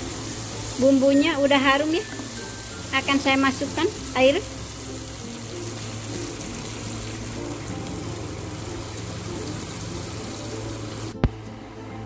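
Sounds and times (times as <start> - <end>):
water pouring into a wok: 0.0 - 11.2.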